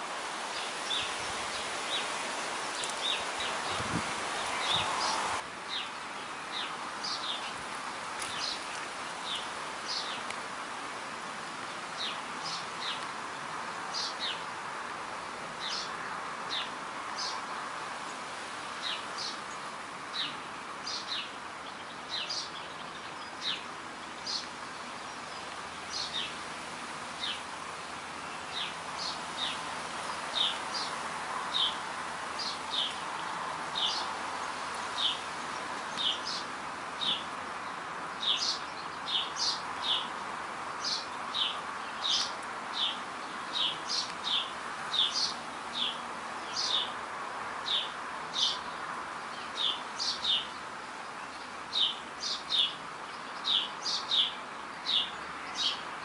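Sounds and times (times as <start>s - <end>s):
steady background hiss: 0.0s - 56.0s
birds chirping: 0.2s - 10.4s, 11.6s - 14.7s, 15.5s - 26.5s, 27.1s - 56.0s.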